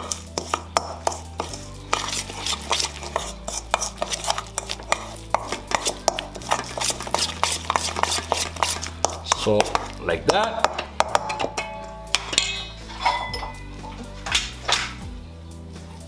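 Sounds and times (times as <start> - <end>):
utensil clinking and scraping a bowl: 0.0 - 15.1.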